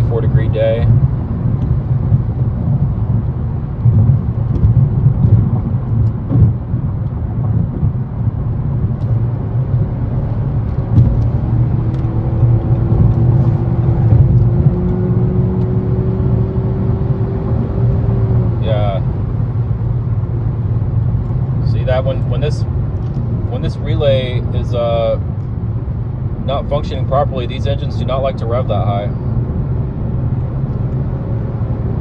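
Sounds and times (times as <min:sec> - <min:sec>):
car engine rumbling: 0:00.0 - 0:32.0
road noise: 0:00.0 - 0:32.0.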